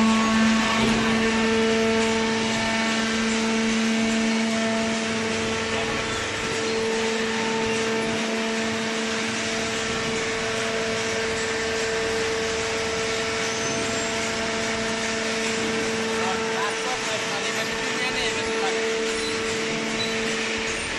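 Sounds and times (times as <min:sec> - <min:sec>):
shredder machinery running: 0:00.0 - 0:20.9.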